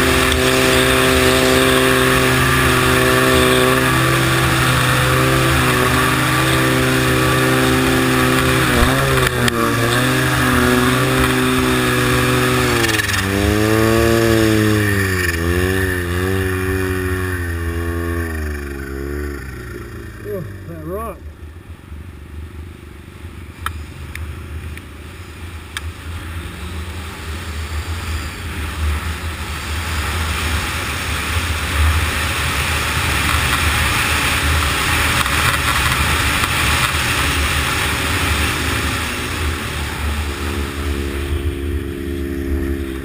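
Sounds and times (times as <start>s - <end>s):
broad rush of noise: 0.0s - 43.0s
snowmobile engine under throttle: 0.0s - 43.0s.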